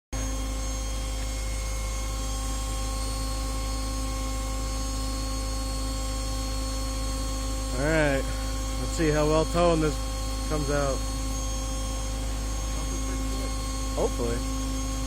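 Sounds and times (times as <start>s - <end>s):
steady hum with low rumble: 0.2s - 15.0s.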